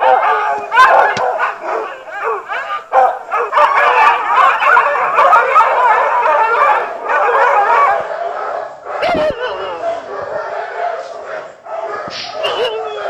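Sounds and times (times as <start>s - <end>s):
dogs howling and yipping: 0.0s - 13.0s.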